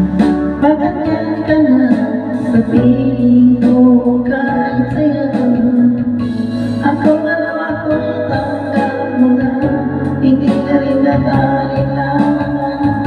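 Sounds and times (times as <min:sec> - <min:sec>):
backing track with bass guitar and beat: 0:00.0 - 0:13.0.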